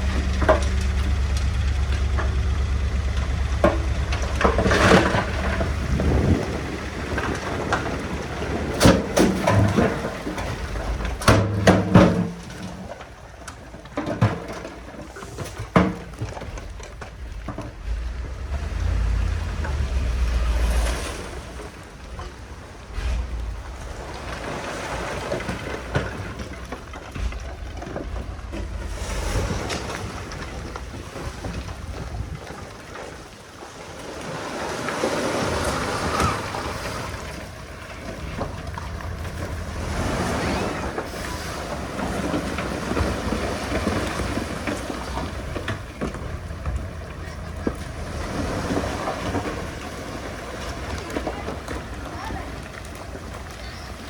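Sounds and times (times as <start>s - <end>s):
wind buffeting microphone: 0.0s - 11.3s, 16.1s - 54.0s
knocks and clanks: 0.0s - 33.1s, 35.4s - 53.8s
heavy machinery engine rumble: 0.0s - 54.0s.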